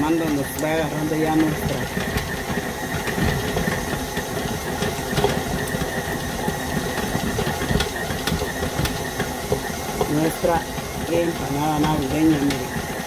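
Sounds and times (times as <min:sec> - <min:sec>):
stand mixer motor whine: 0:00.0 - 0:13.0
dough thudding in a bowl: 0:00.2 - 0:13.0.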